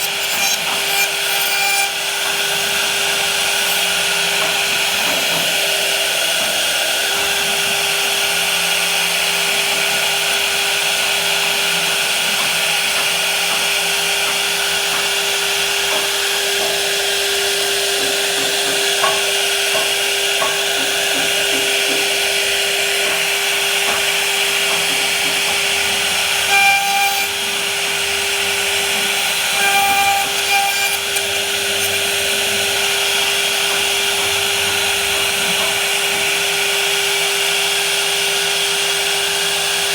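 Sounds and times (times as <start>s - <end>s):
power tool motor whining: 0.0s - 16.4s, 21.2s - 39.8s.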